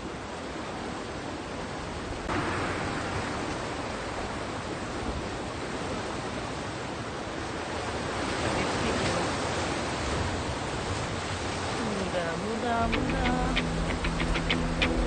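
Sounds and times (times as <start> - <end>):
sea surf breaking on shore: 0.0 - 15.0.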